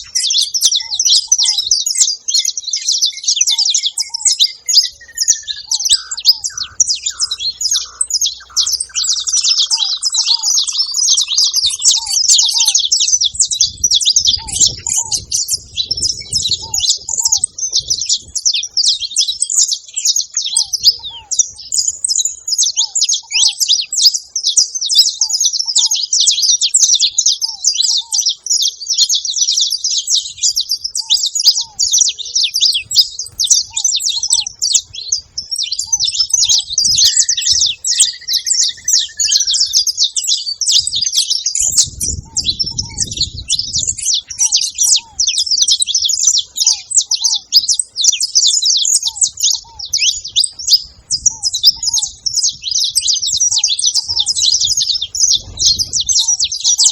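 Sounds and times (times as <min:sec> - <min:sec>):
finches chattering: 0:00.0 - 0:56.9.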